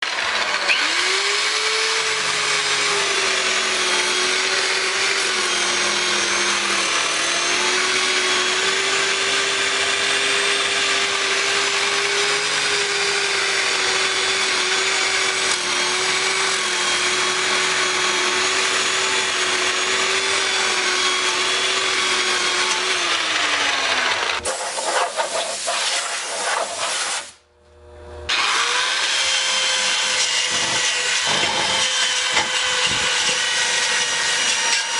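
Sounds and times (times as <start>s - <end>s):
power tool grinding metal: 0.0s - 34.9s.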